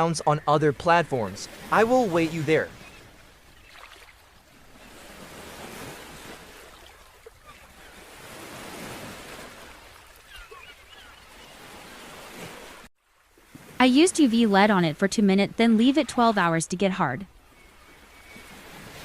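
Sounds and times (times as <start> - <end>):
ocean waves washing in: 0.0 - 19.0.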